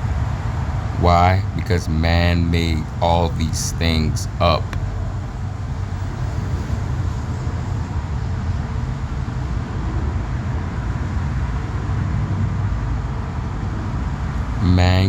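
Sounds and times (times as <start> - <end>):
low rumble: 1.3 - 13.8.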